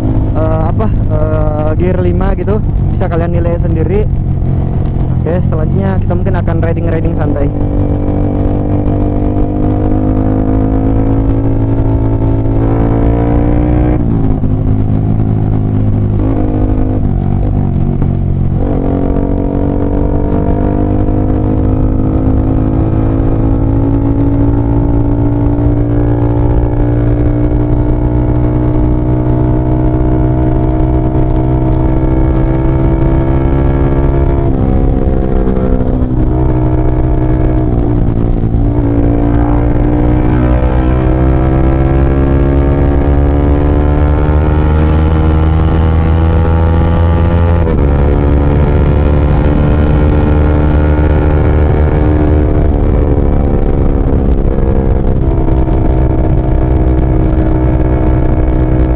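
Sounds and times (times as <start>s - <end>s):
motorcycle engine riding: 0.0s - 58.9s.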